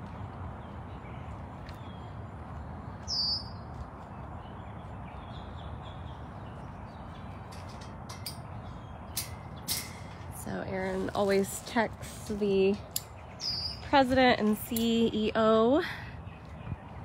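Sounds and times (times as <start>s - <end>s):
high falling bird chirp: 0.0s - 17.0s.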